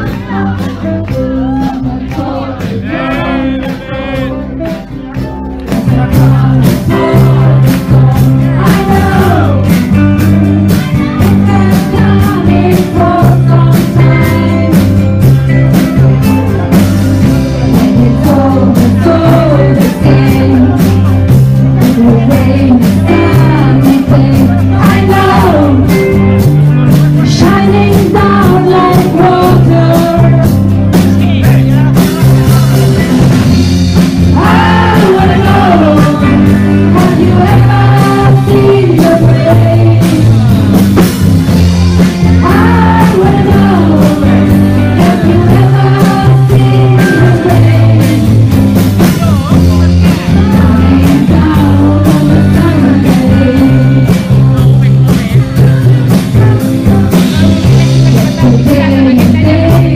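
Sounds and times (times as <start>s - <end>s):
group of voices singing: 0.0s - 16.1s, 16.7s - 59.9s
acoustic guitar: 0.0s - 59.9s
live rock band playing: 0.0s - 59.9s.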